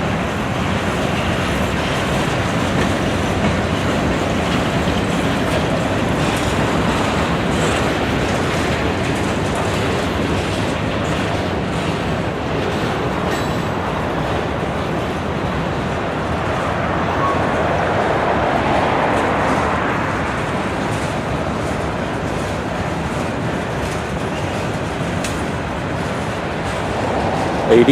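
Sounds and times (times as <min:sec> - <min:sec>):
freight train wheels rumbling on rail: 0:00.0 - 0:27.9.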